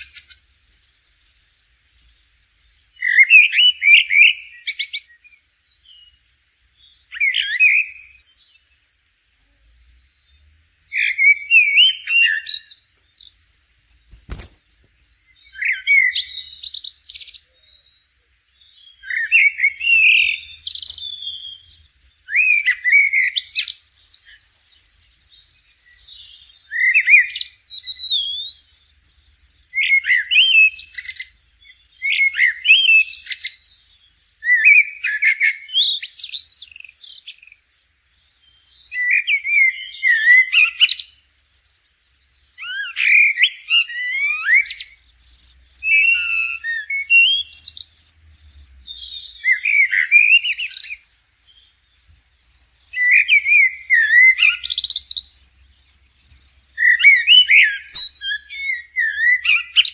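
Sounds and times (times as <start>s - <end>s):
blackbird singing: 0.0s - 59.9s.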